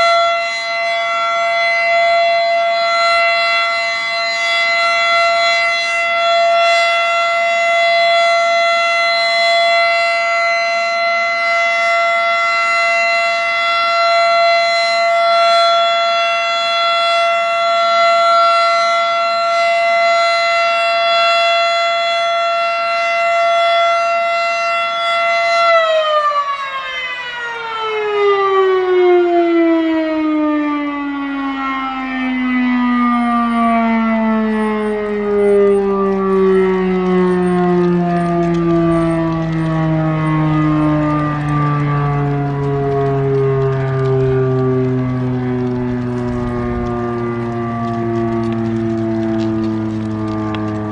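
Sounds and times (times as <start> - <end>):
outdoor warning siren: 0.0 - 50.9.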